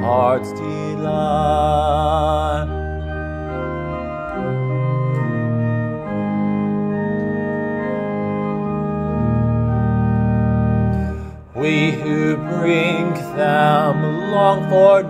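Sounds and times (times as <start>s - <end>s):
organ playing hymn chords: 0.0s - 15.0s.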